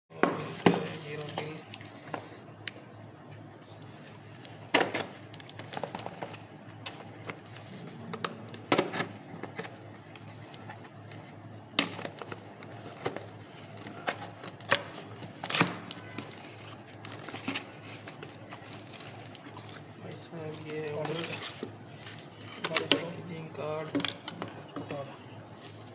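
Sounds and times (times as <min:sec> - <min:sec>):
packaging clicks and rustles: 0:00.4 - 0:02.8, 0:03.7 - 0:25.9.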